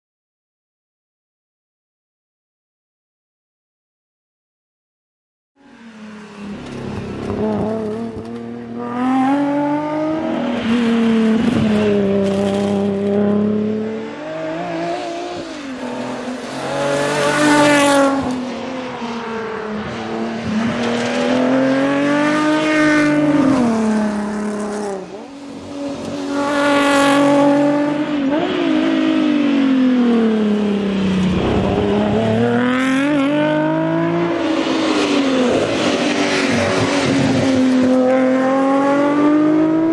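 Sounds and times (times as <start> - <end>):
car engine revving: 5.6 - 39.9.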